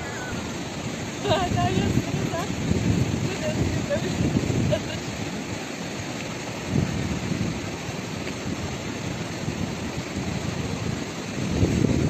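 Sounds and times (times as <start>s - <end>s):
river rushing: 0.0s - 12.0s
wind rumbling on microphone: 0.0s - 12.0s.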